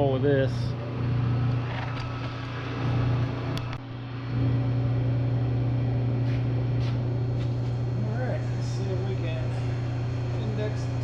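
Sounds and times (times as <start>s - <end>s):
milling machine motor hum: 0.0s - 11.0s.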